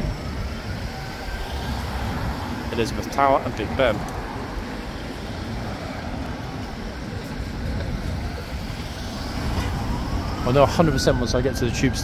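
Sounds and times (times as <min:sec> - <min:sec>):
emergency vehicle siren: 0:00.0 - 0:12.0
road traffic rumble: 0:00.0 - 0:12.0.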